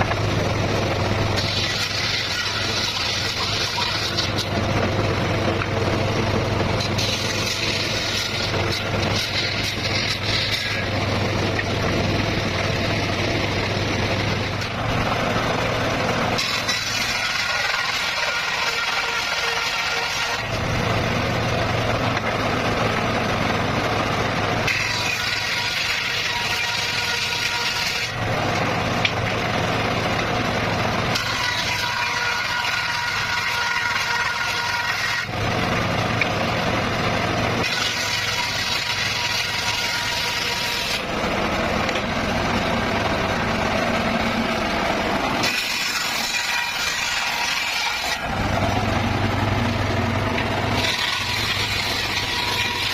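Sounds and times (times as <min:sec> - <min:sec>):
circular saw cutting bamboo: 0:00.0 - 0:52.9.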